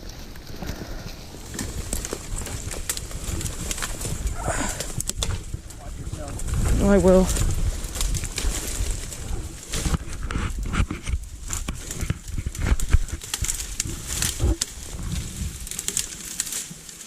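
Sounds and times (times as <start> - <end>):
wind rumble on microphone: 0.0 - 15.9
footsteps crunching through dry brush: 0.0 - 17.0.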